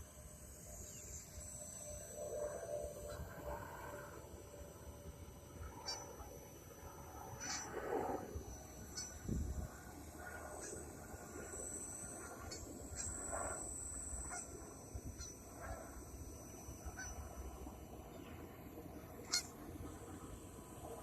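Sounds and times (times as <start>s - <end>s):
toy helicopter motor whine: 0.0s - 18.0s.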